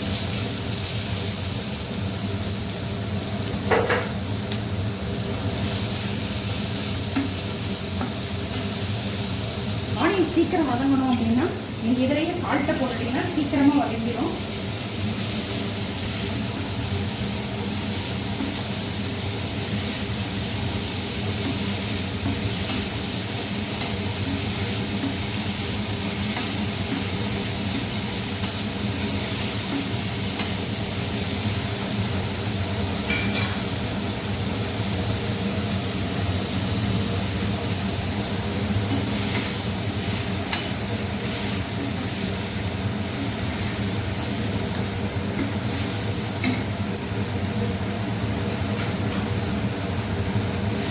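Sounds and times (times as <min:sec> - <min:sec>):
onions sizzling in a pan: 0:00.0 - 0:50.9.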